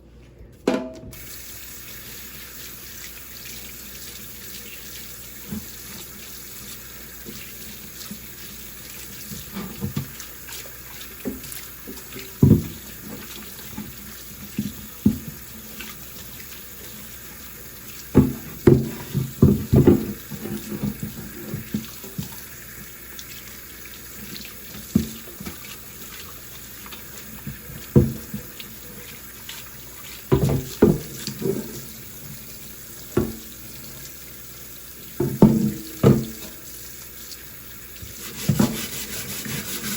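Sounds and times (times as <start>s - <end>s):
tap water running into sink: 1.1s - 39.9s.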